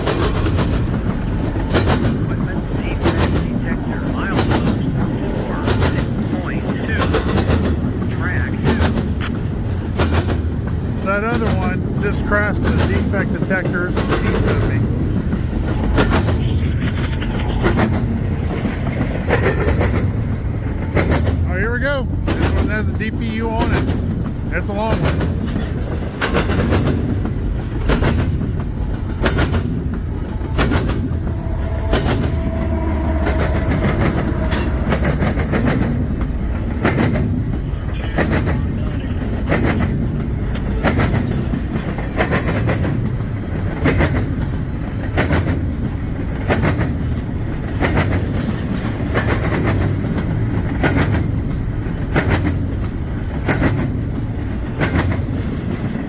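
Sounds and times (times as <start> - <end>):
train low rumble: 0.0 - 56.0
train wheels clicking over rail joints: 0.0 - 56.0.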